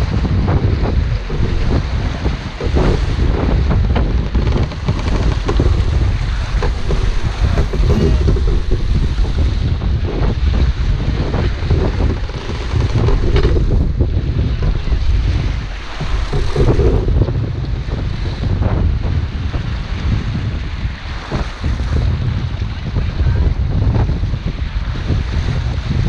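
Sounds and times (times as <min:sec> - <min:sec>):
water rushing along hull: 0:00.0 - 0:26.0
wind buffeting microphone: 0:00.0 - 0:26.0.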